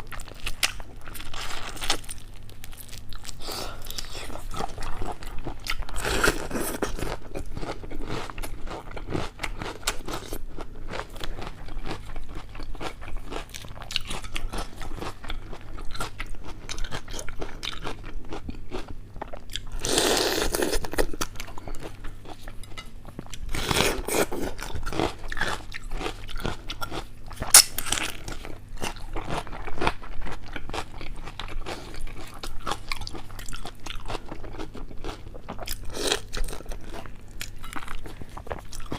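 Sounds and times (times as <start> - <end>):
crunching and chewing food: 0.0 - 38.9.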